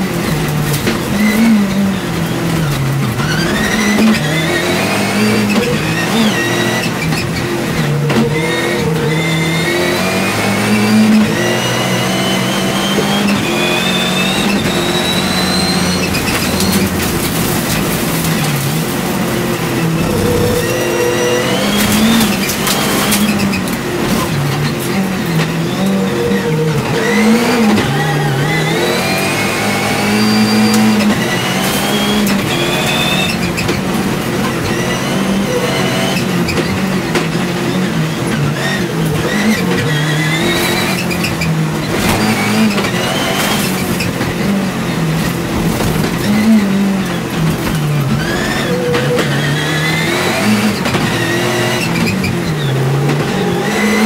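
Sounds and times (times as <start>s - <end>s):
race car engine revving: 3.1s - 54.0s.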